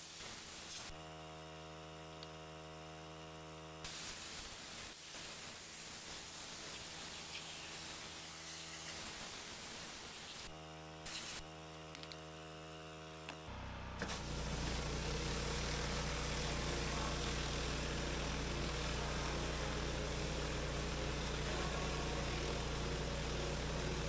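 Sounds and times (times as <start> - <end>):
surface cleaner spraying paving: 0.0 - 3.0, 3.8 - 24.0
pressure washer running: 0.0 - 24.0.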